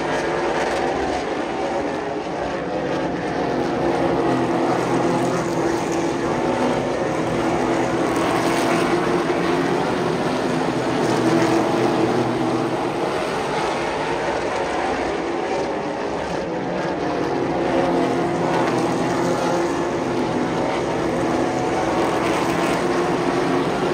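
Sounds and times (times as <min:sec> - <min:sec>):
stock car engines racing: 0:00.0 - 0:23.9.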